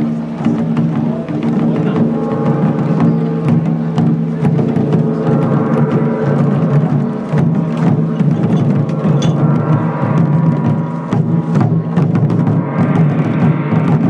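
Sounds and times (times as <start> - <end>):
sustained pitched tones: 0.0 - 14.0
taiko drums playing: 0.0 - 14.0.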